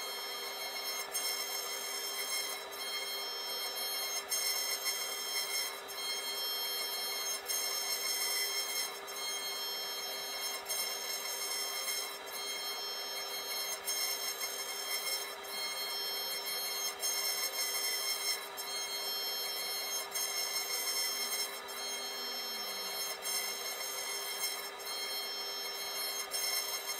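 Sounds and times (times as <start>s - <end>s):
carving bit cutting wood: 0.0s - 26.9s
cnc router spindle whine: 0.0s - 26.9s.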